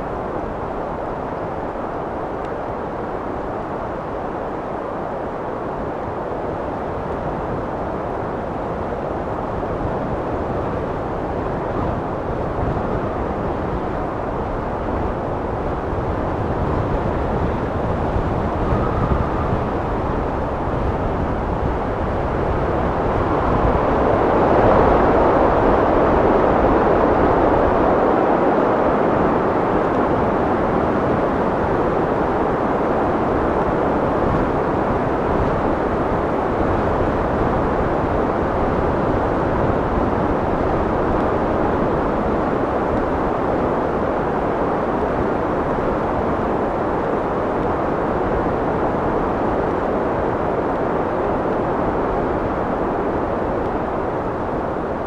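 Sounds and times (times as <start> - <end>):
rushing wind: 0.0 - 55.0.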